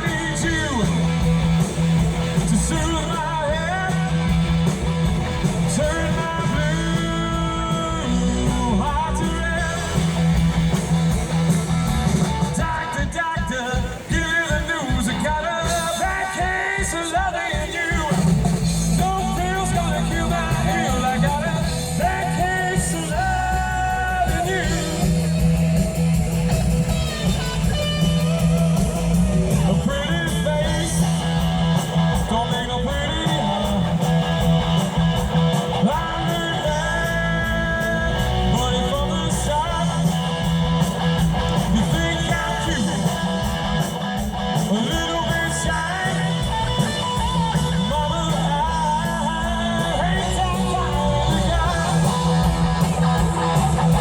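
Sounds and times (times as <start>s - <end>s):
person singing: 0.0s - 10.6s, 11.8s - 26.1s, 26.8s - 43.9s, 44.5s - 54.0s
bass guitar: 0.0s - 54.0s
drums: 0.0s - 54.0s
electric guitar: 0.0s - 54.0s.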